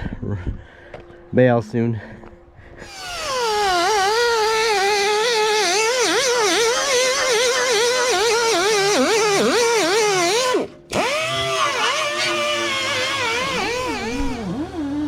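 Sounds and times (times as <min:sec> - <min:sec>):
angle grinder whining on metal: 0:02.8 - 0:15.0.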